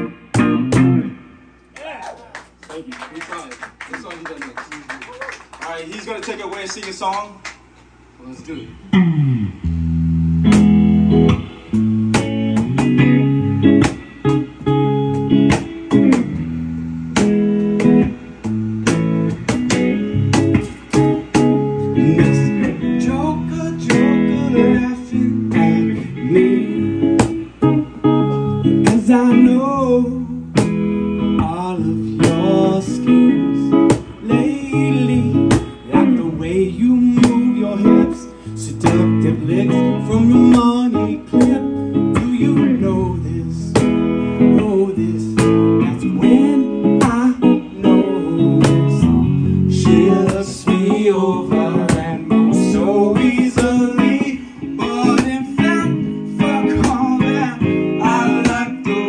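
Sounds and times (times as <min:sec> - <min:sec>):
guitar-led song with singing: 0:00.0 - 0:02.4, 0:07.8 - 0:59.0.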